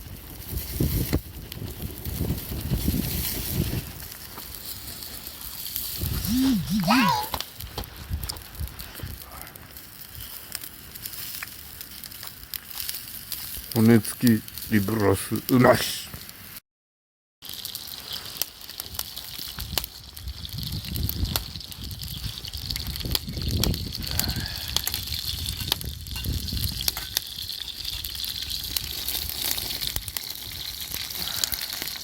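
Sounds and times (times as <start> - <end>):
fire crackling pops: 0.0 - 16.6, 17.4 - 32.0
meat sizzling: 0.2 - 9.2, 9.8 - 16.6, 17.4 - 32.0.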